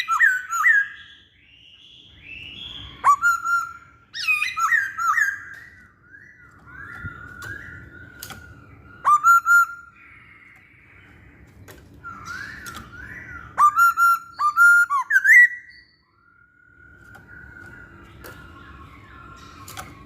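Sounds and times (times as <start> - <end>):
bird singing whistles: 0.0 - 11.4, 12.0 - 20.0.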